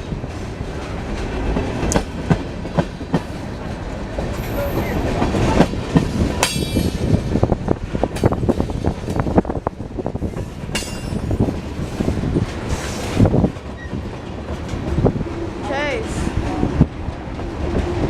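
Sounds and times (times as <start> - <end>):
train wheels clacking over rail joints: 0.0 - 18.0.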